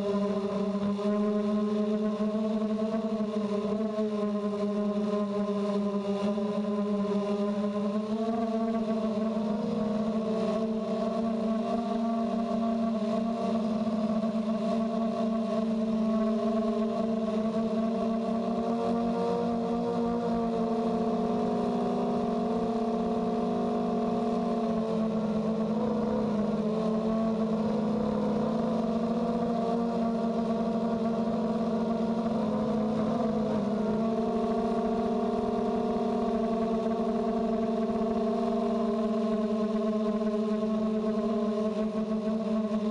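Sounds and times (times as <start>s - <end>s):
quadcopter propellers whirring: 0.0s - 42.9s.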